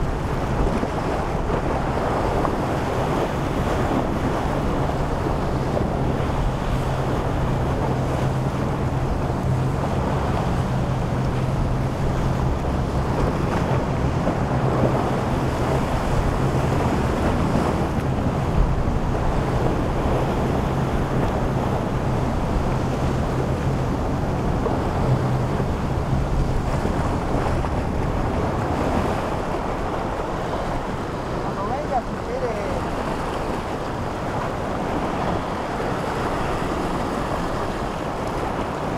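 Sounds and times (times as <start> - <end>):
boat engines droning: 0.0 - 38.9
waves and surf: 0.0 - 38.9
wind buffeting microphone: 0.0 - 38.9.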